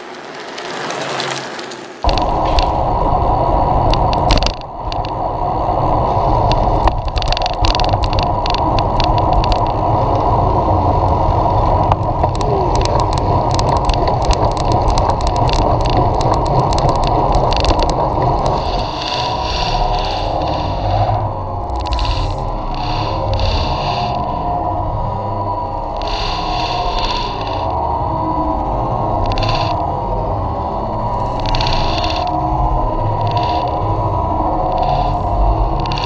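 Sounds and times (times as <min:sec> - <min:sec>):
sharp clicks and rattles: 0:00.0 - 0:24.6, 0:25.7 - 0:27.8, 0:28.6 - 0:36.0
rushing wind and road noise: 0:00.0 - 0:36.0.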